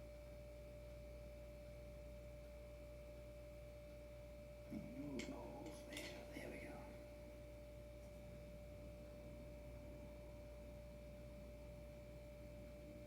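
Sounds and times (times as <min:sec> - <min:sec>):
faint steady tone: 0:00.0 - 0:13.0.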